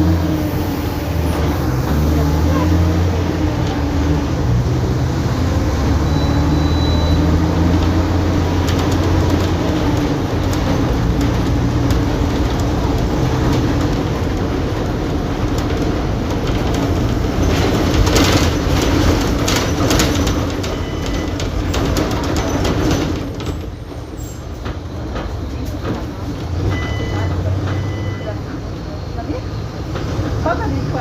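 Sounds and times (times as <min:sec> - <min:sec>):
bus diesel engine droning: 0:00.0 - 0:31.0.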